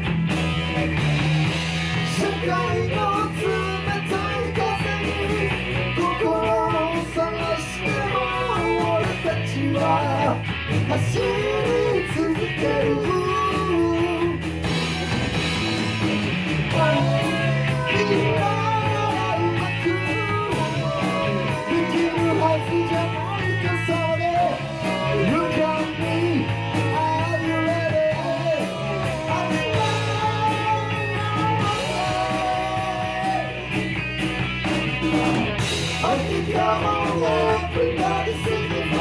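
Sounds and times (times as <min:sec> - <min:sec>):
rock band with guitars: 0:00.0 - 0:39.0.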